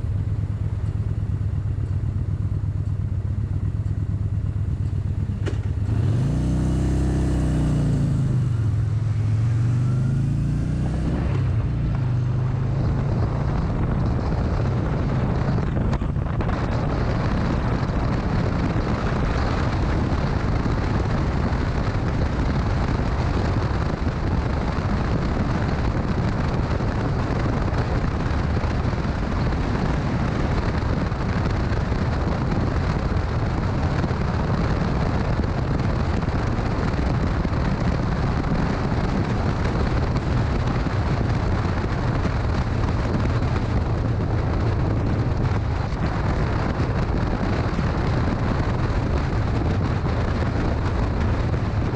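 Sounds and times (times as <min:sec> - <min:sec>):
motorcycle engine: 0:00.0 - 0:51.9
wind buffeting microphone: 0:00.0 - 0:51.9.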